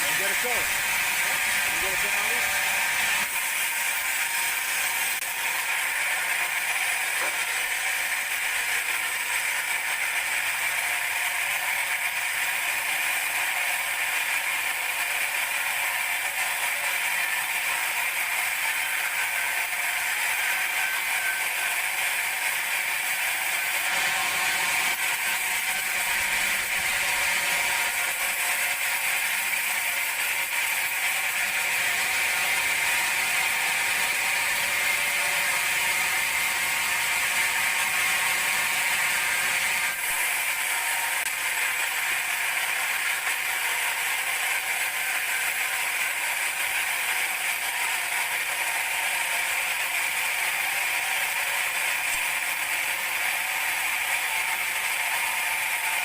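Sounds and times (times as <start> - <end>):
band saw whining: 0.0 - 56.0.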